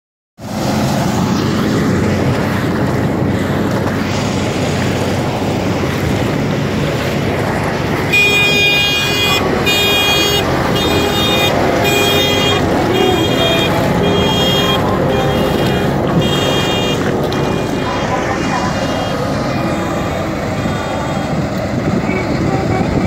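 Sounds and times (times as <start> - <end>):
combine harvester engine running: 0.4 - 23.0.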